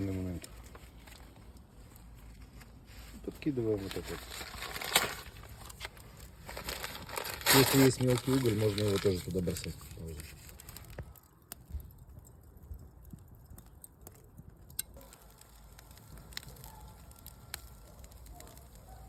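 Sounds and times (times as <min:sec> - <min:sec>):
fire crackling pops: 0:00.0 - 0:19.0
fire low rumble: 0:00.0 - 0:19.0.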